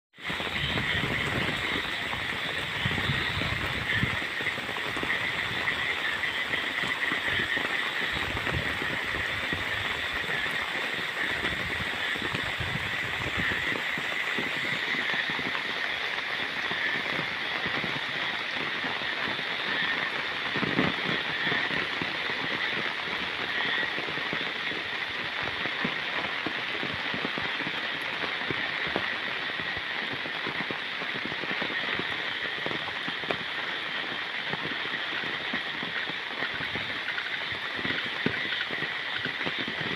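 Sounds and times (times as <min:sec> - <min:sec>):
steady rain falling: 0:00.1 - 0:39.9.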